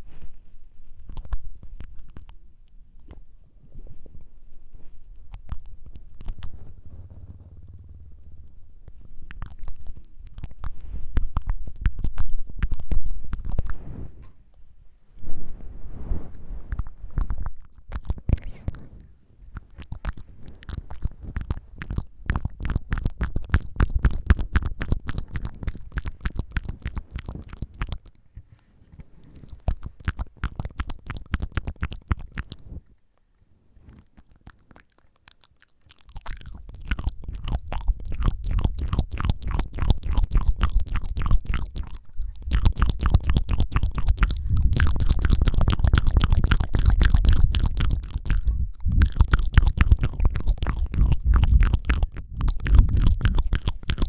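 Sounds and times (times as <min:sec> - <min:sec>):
tongue clicking mouth sounds: 0:01.0 - 0:03.2, 0:05.3 - 0:06.6, 0:09.0 - 0:13.8, 0:16.7 - 0:32.8, 0:33.9 - 0:54.0.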